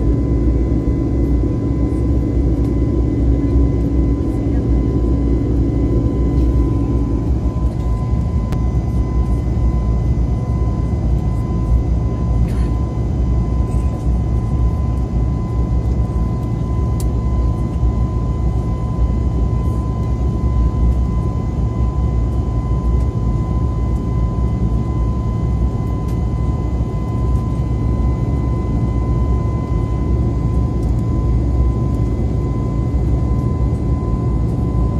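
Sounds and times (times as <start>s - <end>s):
airliner cabin roar: 0.0s - 34.9s
thin steady whine: 0.0s - 34.9s.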